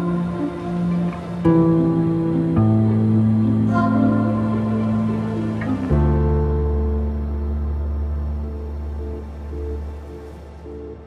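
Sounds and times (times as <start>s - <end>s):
calm music with held chords: 0.0s - 11.0s.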